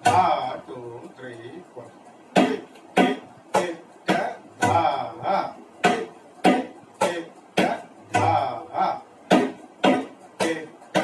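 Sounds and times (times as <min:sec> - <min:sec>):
tabla strokes: 0:00.0 - 0:00.6, 0:02.3 - 0:11.0.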